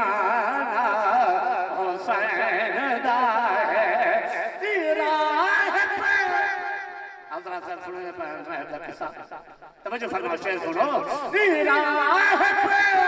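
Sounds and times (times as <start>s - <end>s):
man singing with vibrato: 0.0s - 9.4s, 10.2s - 13.0s.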